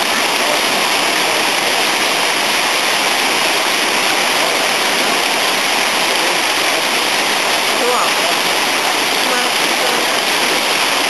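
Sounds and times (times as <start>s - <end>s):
water rushing down: 0.0s - 11.0s.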